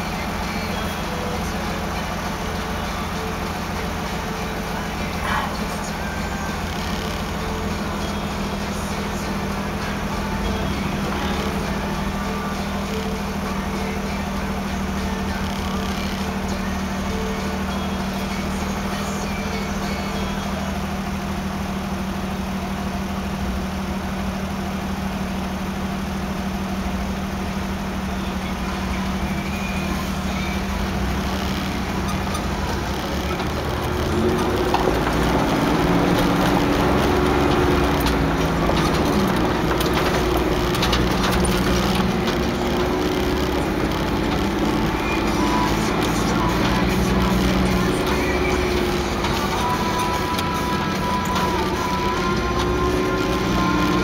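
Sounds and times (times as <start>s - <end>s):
car engine and cabin hum: 0.0s - 54.0s.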